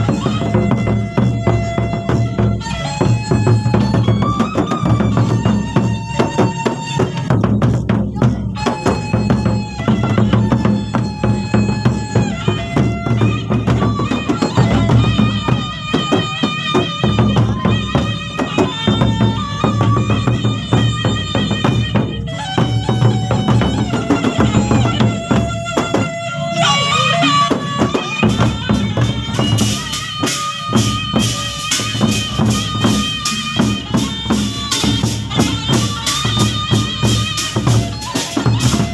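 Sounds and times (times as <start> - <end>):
large drums beating: 0.0 - 38.9
wind instrument melody: 0.0 - 38.9.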